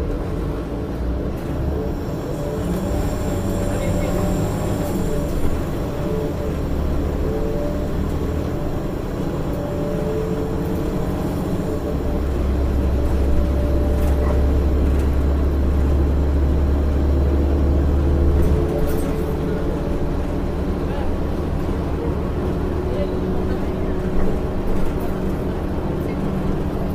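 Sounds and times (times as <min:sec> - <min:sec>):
bus diesel engine droning: 0:00.0 - 0:26.9.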